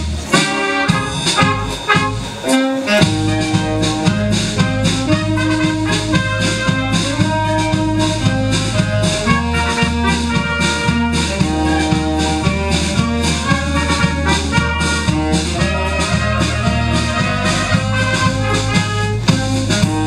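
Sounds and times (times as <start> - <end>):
wind band playing: 0.0 - 20.0.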